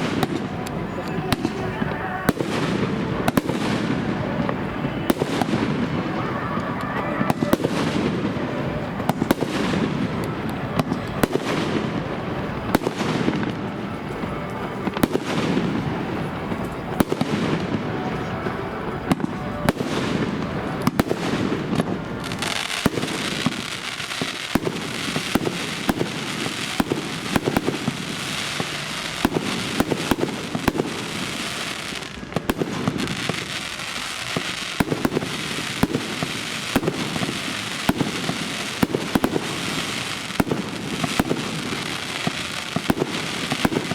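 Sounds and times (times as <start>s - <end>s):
firework crackling hiss: 0.0s - 43.9s.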